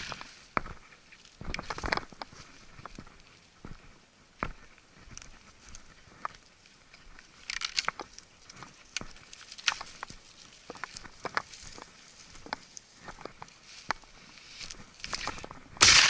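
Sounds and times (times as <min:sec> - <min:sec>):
twigs crackling and snapping: 0:00.0 - 0:03.5, 0:04.5 - 0:16.0
brush rustling against clothing: 0:00.0 - 0:15.6
footsteps through dry grass: 0:00.0 - 0:16.0.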